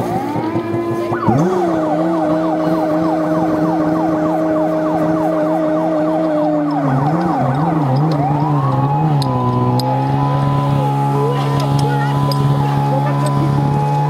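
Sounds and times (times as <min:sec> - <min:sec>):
fast falling siren sweep: 0:00.0 - 0:14.0
siren steady tone: 0:00.0 - 0:14.0
siren winding up: 0:00.0 - 0:14.0.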